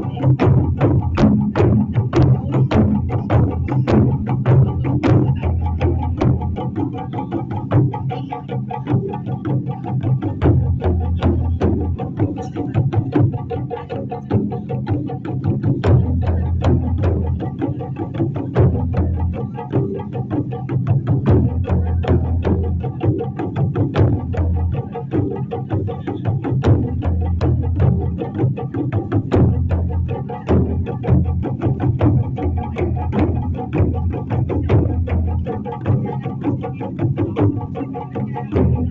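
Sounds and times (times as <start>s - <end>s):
taiko drums playing fast: 0.0s - 38.9s.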